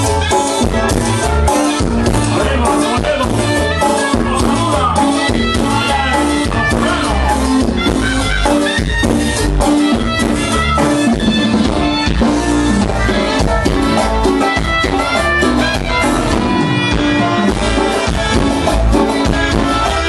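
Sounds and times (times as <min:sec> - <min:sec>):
latin dance band playing: 0:00.0 - 0:20.0.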